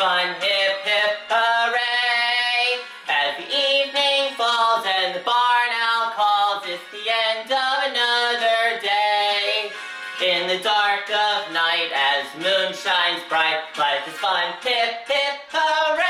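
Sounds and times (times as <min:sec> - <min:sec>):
backing music: 0:00.0 - 0:16.0
person singing: 0:00.0 - 0:16.0.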